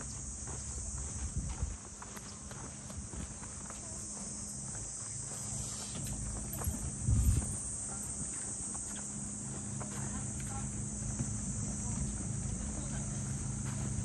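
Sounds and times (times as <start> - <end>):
cicadas buzzing: 0.0 - 14.0
footsteps: 0.0 - 14.0.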